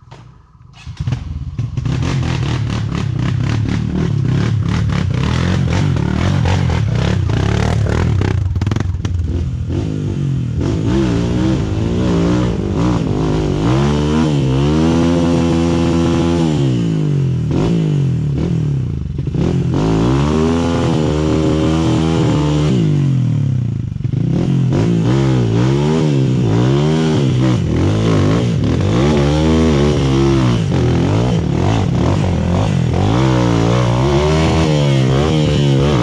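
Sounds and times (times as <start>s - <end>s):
dirt bike engine revving: 0.8s - 36.0s.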